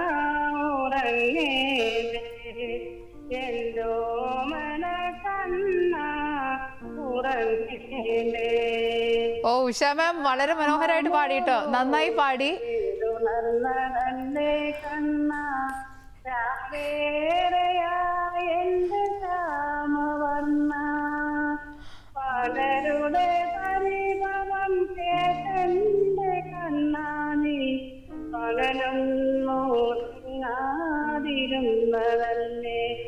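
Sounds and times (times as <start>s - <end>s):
woman singing over telephone: 0.0s - 33.0s.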